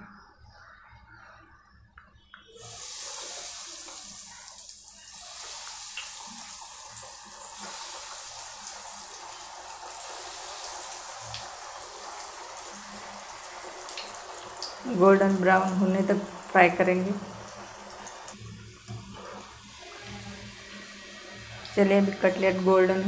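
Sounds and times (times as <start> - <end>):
food sizzling in hot oil: 2.5 - 23.0.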